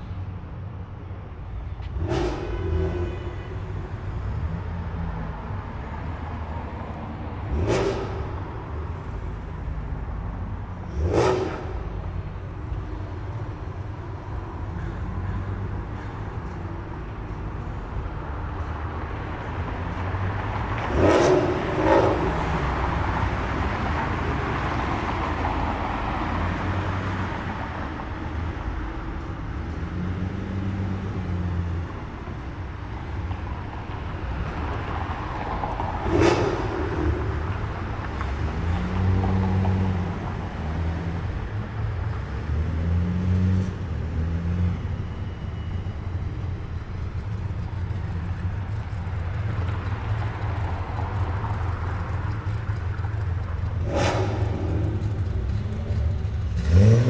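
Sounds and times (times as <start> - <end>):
cars rolling past: 1.0 - 57.0.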